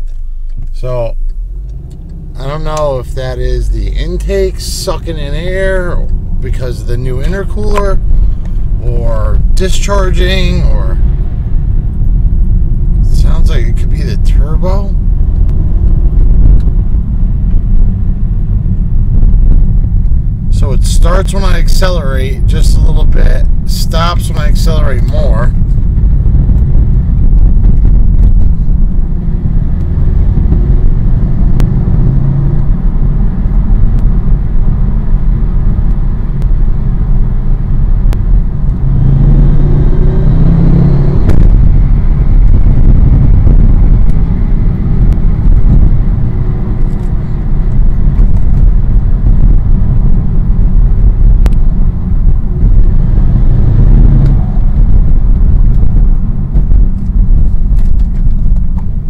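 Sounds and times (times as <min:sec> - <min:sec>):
car engine rumble from cabin: 0:00.0 - 0:59.0.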